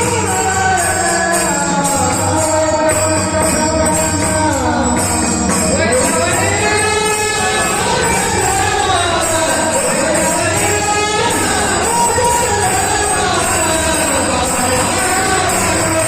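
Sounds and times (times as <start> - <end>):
hand cymbals jingling: 0.0 - 16.0
men singing held notes: 0.0 - 16.0.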